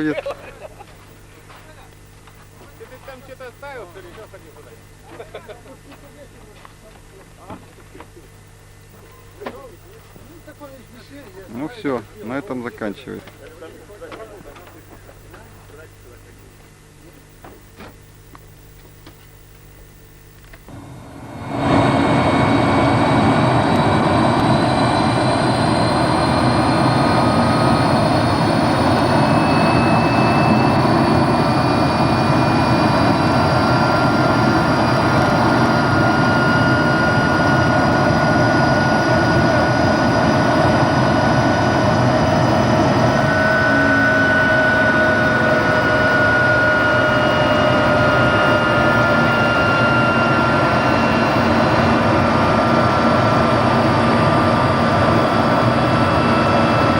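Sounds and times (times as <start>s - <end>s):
helicopter turbine and rotor noise: 0.0s - 56.9s
high drifting whines: 8.3s - 56.9s.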